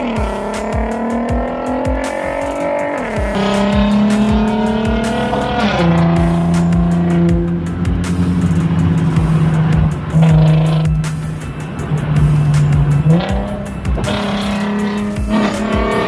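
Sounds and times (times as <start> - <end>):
car engine accelerating: 0.0 - 16.0
music with steady beat and bass: 0.0 - 16.0.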